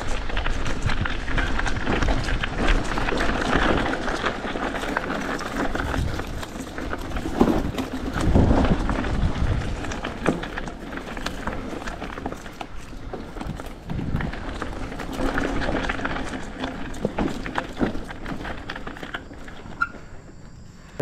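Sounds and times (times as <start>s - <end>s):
bike rattling and knocking: 0.0s - 20.2s
bike tyres on dirt: 0.0s - 21.0s.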